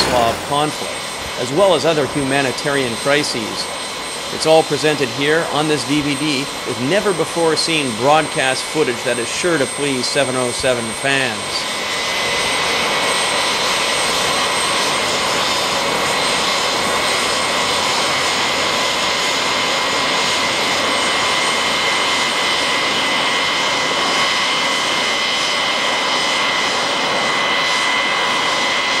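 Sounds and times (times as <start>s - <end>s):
high jet engine whine: 0.0s - 29.0s
jet engines rushing: 0.0s - 29.0s.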